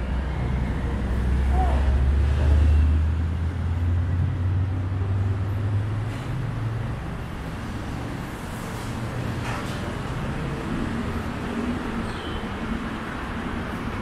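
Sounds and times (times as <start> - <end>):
heavy vehicle engine hum: 0.0 - 14.0
traffic din: 0.0 - 14.0.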